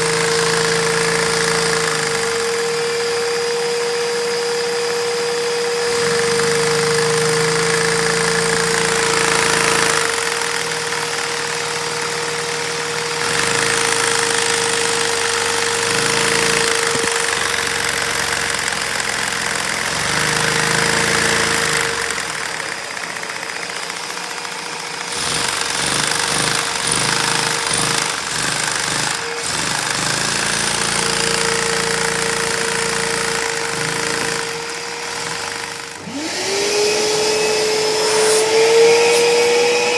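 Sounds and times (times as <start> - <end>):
vacuum cleaner whine: 0.0 - 39.9.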